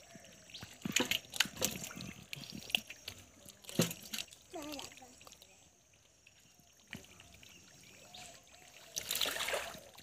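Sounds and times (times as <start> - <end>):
hands squelching in wet mud: 0.5 - 5.6, 6.9 - 10.0.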